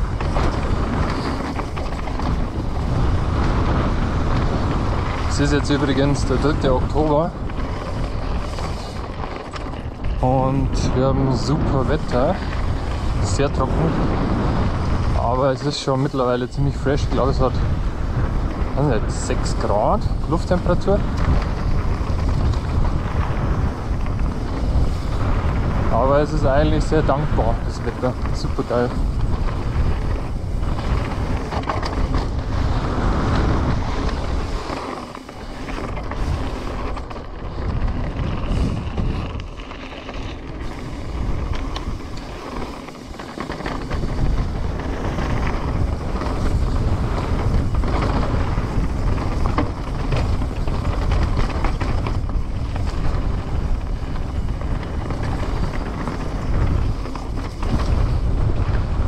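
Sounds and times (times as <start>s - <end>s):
bike rattling clicks and knocks: 0.0s - 59.0s
tyres rumbling over dirt: 0.0s - 59.0s
wind rushing over microphone: 0.0s - 59.0s.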